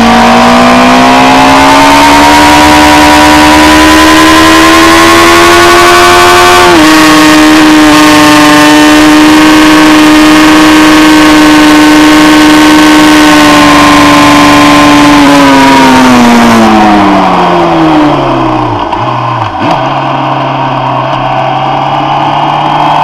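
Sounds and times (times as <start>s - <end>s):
motorcycle engine revving high: 0.0s - 23.0s.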